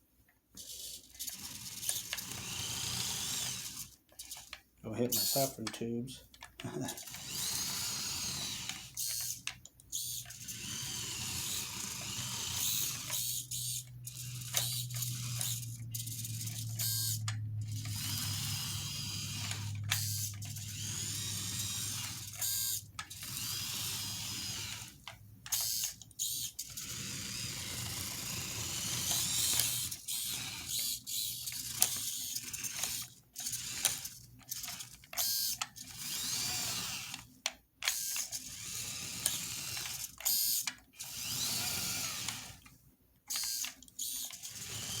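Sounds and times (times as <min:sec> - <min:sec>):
toy tractor electric motor whining: 0:00.6 - 0:05.8, 0:06.4 - 0:42.7, 0:43.3 - 0:45.0.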